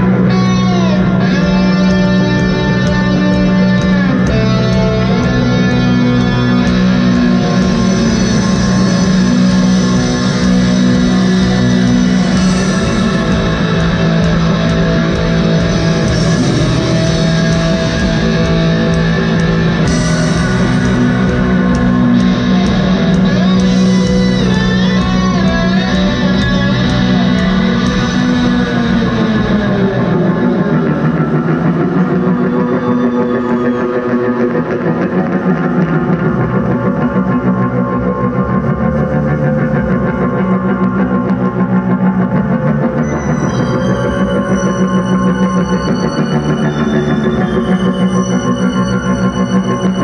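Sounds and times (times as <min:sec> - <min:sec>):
rock band playing: 0:00.0 - 0:50.0
sliding electric guitar: 0:00.0 - 0:50.0.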